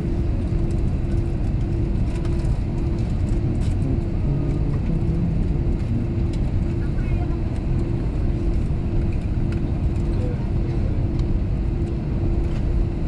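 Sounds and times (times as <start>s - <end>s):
airliner cabin rumble while taxiing: 0.0s - 13.0s.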